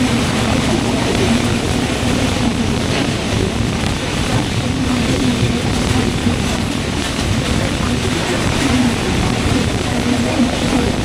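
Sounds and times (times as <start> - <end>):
train wheels rumbling on rails: 0.0 - 11.0
wind rushing over microphone: 0.0 - 11.0.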